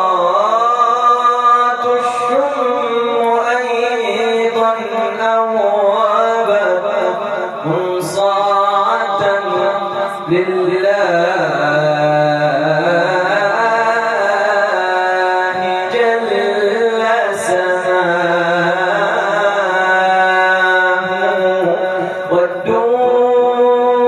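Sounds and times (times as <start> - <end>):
man singing devotional chant: 0.0 - 24.0.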